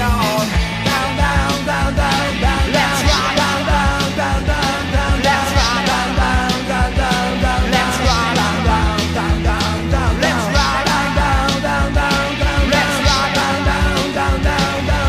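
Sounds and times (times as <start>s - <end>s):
rock and roll song: 0.0s - 15.0s.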